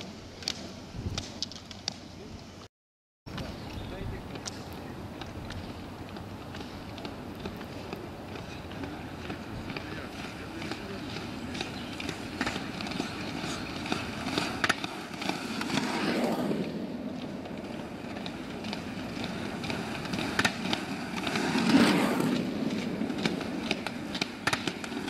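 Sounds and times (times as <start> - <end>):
roller ski wheels on asphalt: 0.0 - 2.7, 3.3 - 25.0.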